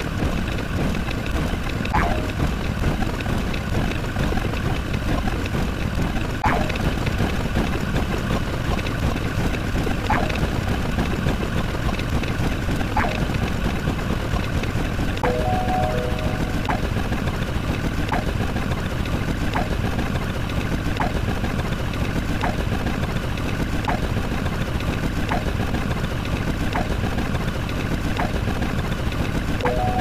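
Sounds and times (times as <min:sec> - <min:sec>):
engine-like rumble: 0:00.0 - 0:30.0.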